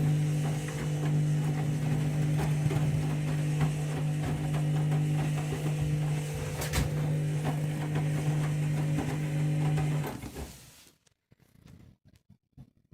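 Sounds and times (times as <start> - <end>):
washing machine humming: 0.0 - 10.8.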